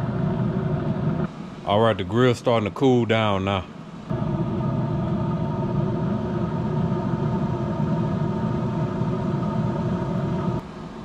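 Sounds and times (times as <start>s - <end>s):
grill fan humming: 0.0s - 11.0s.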